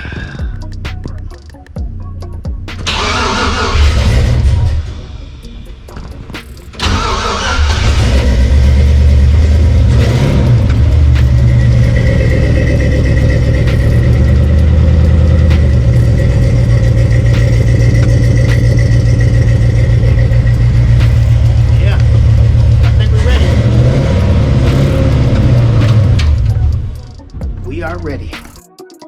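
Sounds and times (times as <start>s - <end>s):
truck engine starting and running: 0.7s - 28.5s.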